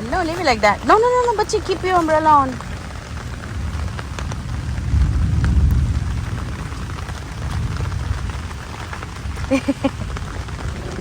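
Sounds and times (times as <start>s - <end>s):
low rumble of thunder: 0.0s - 11.0s
steady rain falling: 0.0s - 11.0s.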